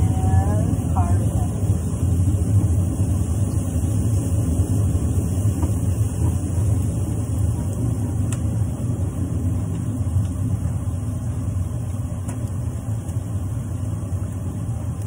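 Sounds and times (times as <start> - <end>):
kitchen appliances humming: 0.0 - 15.0.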